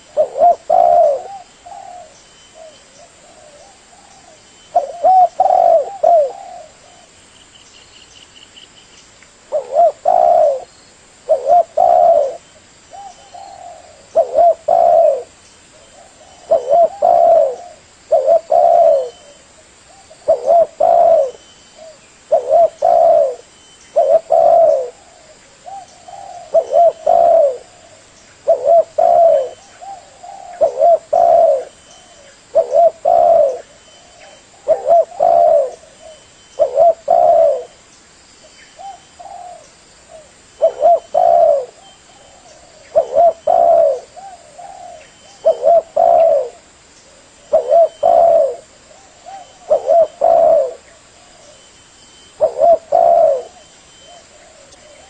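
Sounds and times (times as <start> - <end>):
dove cooing: 0.0 - 7.2, 9.5 - 37.8, 38.8 - 55.0.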